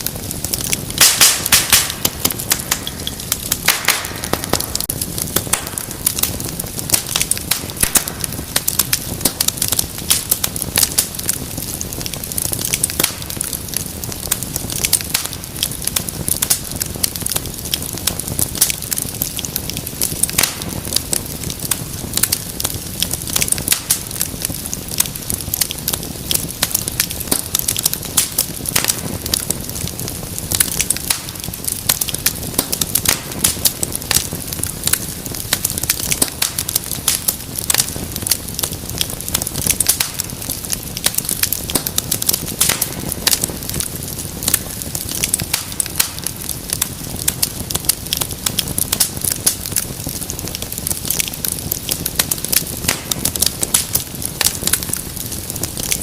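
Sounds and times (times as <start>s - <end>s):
low rush of burning: 0.0s - 56.0s
wood fire crackling and popping: 0.0s - 56.0s.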